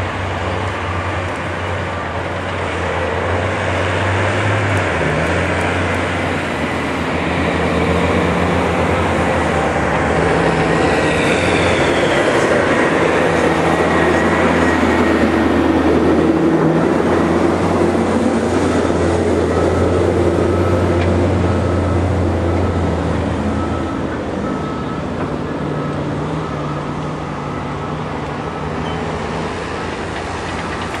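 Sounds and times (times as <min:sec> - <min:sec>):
large engine rumbling: 0:00.0 - 0:31.0.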